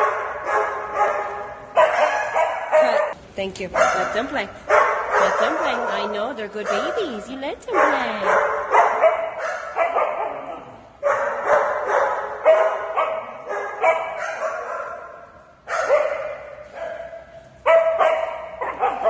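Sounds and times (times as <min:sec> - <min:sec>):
small dogs barking and yapping: 0:00.0 - 0:03.2, 0:03.8 - 0:19.0.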